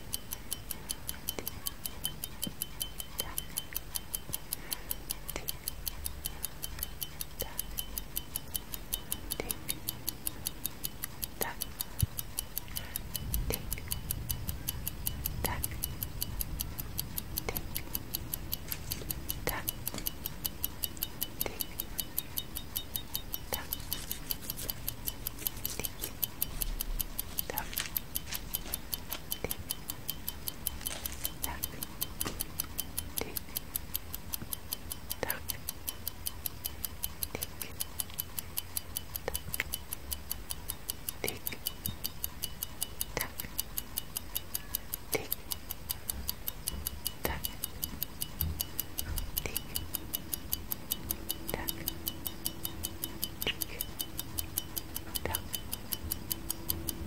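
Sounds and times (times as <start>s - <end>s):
countdown timer ticking: 0.0s - 57.0s.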